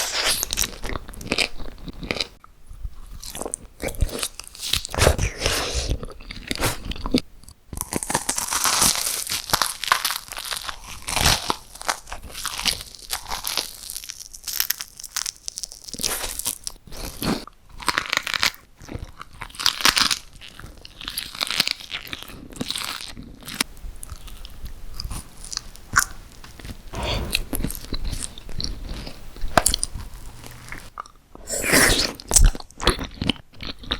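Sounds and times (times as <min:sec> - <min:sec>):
chewing crunchy food: 0:00.0 - 0:33.9.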